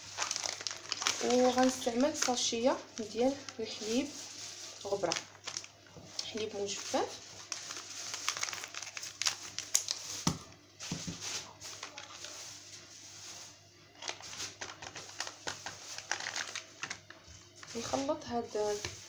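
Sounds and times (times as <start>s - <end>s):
plastic sachet crinkling: 0.0s - 10.4s, 11.0s - 12.6s, 13.9s - 18.1s.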